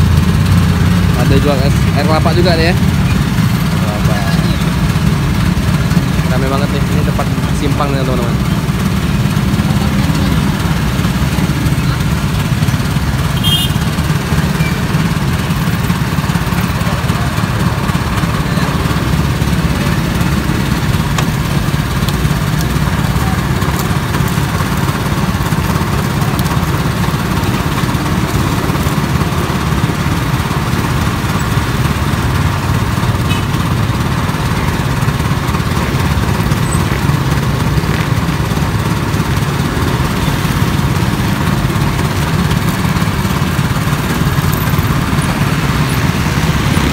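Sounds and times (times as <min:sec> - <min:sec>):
sugar cane juicer humming: 0:00.0 - 0:46.9.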